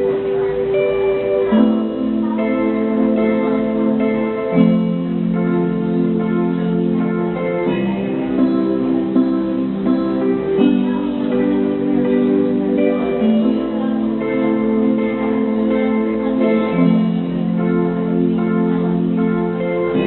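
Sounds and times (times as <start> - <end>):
slow instrumental background music: 0.0 - 20.0.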